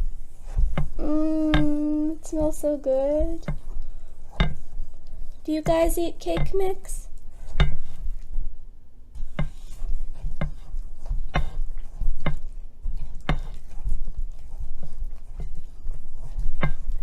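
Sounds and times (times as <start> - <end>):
spoon stirring batter in bowl: 0.0 - 17.0.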